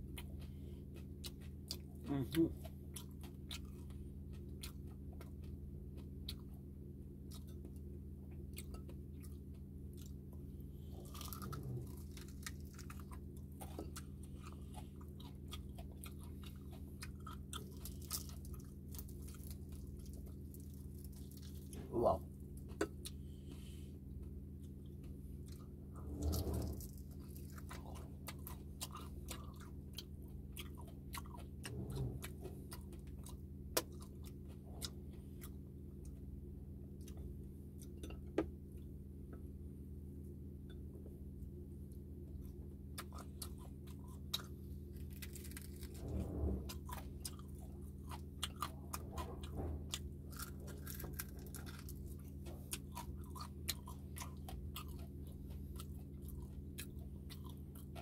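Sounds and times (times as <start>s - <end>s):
chewing and crunching food: 0.0s - 58.0s
steady low hum: 0.0s - 58.0s.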